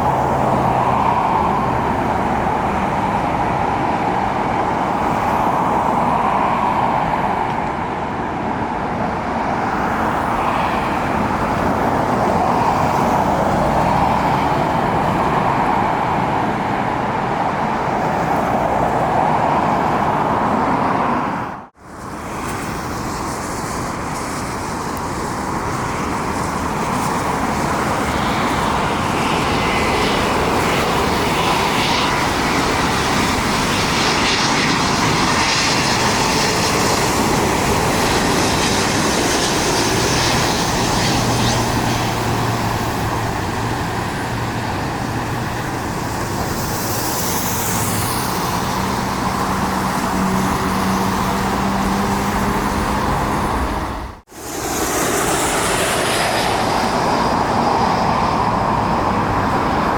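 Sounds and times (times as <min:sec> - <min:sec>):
jet airliner engine noise: 0:00.0 - 0:59.9.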